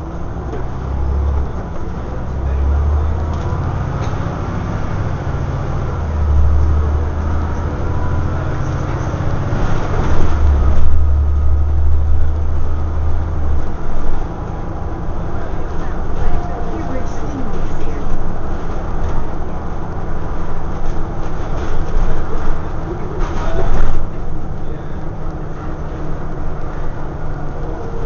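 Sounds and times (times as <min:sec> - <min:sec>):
bus engine drone: 0:00.0 - 0:28.0
road noise: 0:00.0 - 0:28.0.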